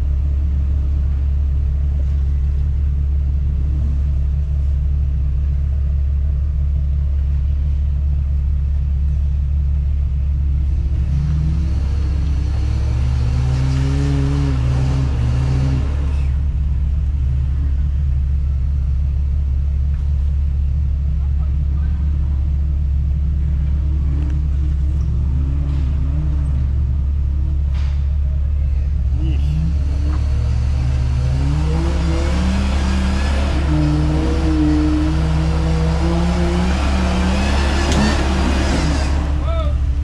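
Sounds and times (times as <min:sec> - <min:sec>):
car engine running and revving: 0:00.0 - 0:40.0.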